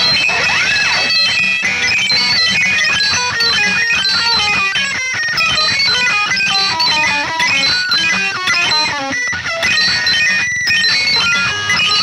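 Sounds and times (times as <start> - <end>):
fast picked guitar runs: 0.0 - 12.0
loud noise metal band playing: 0.0 - 12.0.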